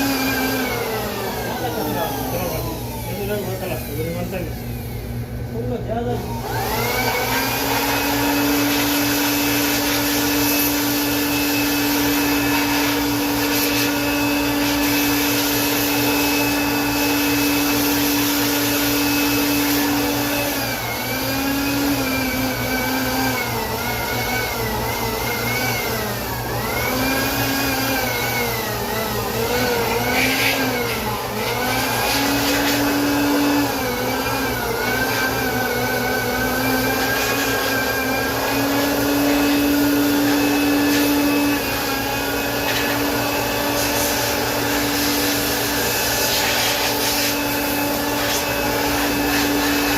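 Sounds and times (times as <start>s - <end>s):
electric air blower whine: 0.0s - 49.9s.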